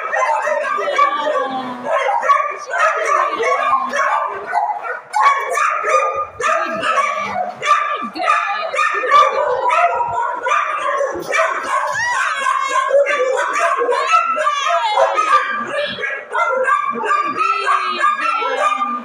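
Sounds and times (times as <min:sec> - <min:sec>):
dogs barking and yipping: 0:00.0 - 0:19.0.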